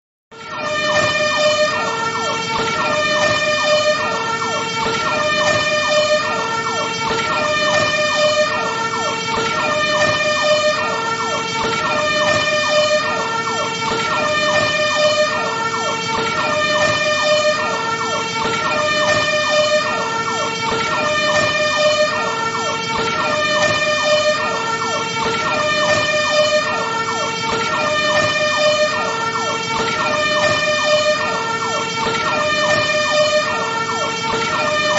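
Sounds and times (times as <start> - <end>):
fire truck siren wailing: 0.3 - 34.9.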